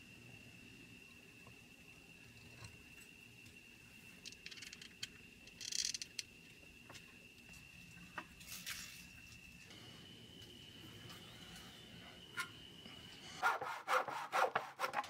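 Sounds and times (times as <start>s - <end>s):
faint high whine: 0.0s - 13.9s.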